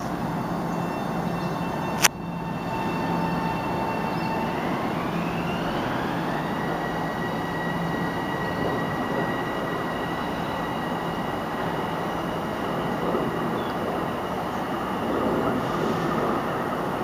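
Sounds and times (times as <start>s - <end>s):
train motor whine: 0.0s - 17.0s
train running noise: 0.0s - 17.0s.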